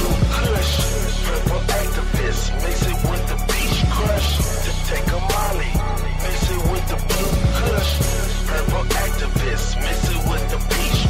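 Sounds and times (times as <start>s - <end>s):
hip hop beat with deep bass: 0.0s - 11.0s.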